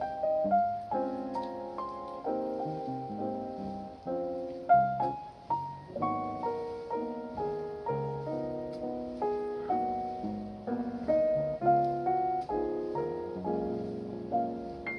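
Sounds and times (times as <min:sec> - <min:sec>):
gentle piano piece: 0:00.0 - 0:14.9.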